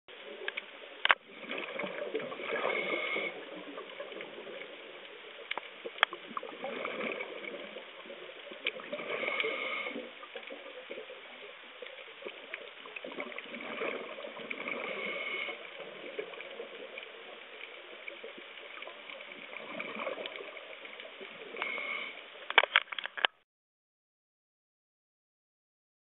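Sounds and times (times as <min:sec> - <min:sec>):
steady underwater hiss: 0:00.1 - 0:22.9
underwater bubbling: 0:00.1 - 0:22.9.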